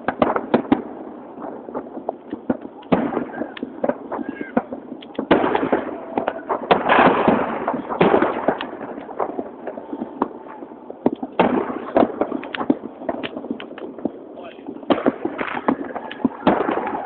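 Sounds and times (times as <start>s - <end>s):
firecrackers banging and crackling: 0.0s - 17.0s.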